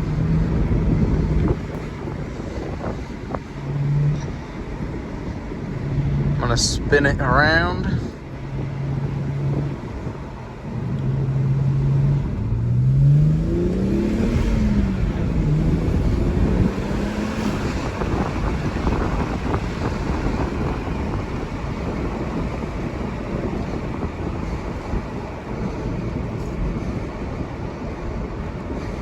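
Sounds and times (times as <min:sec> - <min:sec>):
car engine revving: 0:00.0 - 0:28.3
road and wind noise: 0:00.0 - 0:29.0.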